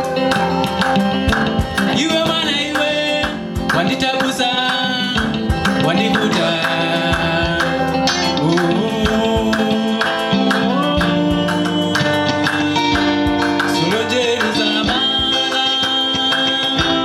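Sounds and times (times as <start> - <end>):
live band guitar and drums: 0.0 - 17.0.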